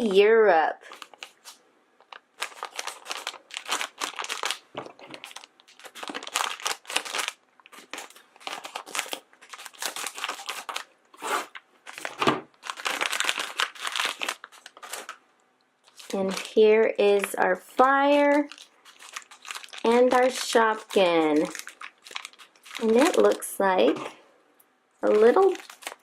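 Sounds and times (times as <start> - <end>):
foil bag crinkling: 0.8 - 15.2, 15.8 - 24.0, 25.0 - 26.0.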